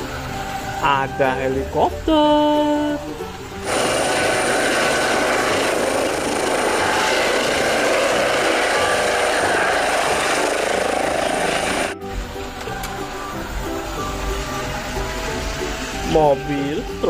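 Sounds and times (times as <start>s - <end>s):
thin high whine: 0.0s - 17.0s
helicopter hovering: 3.0s - 17.0s.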